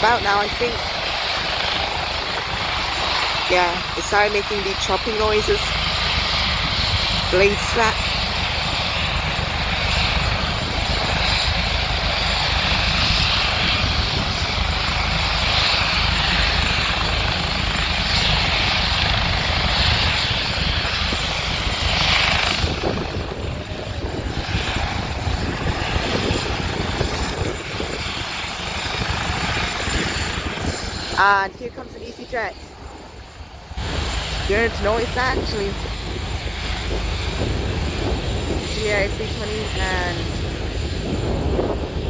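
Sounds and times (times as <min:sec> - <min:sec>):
helicopter rotors and engine: 0:00.0 - 0:42.0.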